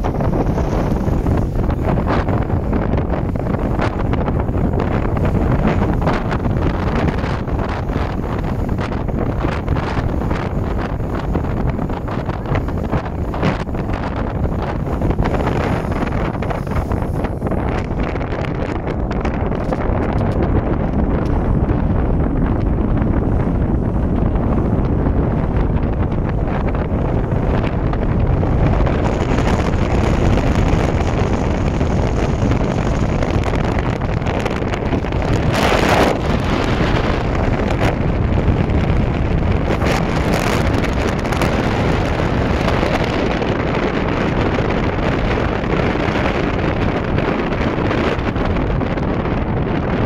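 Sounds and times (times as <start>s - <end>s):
boat engine and water rushing: 0.0s - 50.0s
wind buffeting microphone: 0.0s - 50.0s.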